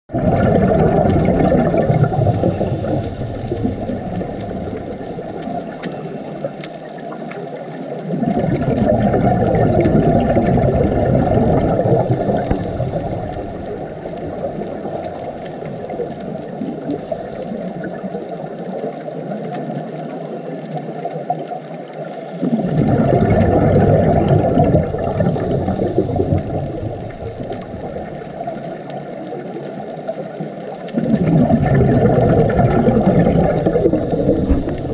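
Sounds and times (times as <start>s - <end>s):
diver exhaling bubbles: 0.1s - 6.9s, 8.0s - 18.2s, 22.4s - 29.4s, 30.9s - 34.9s
underwater rumble: 0.1s - 34.9s.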